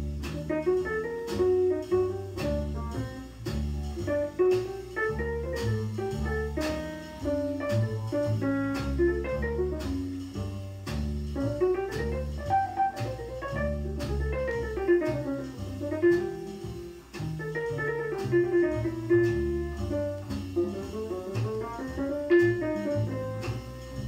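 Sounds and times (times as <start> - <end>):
jazz over loudspeakers: 0.0 - 24.0
light drums: 0.0 - 24.0
walking bass line: 0.0 - 24.0.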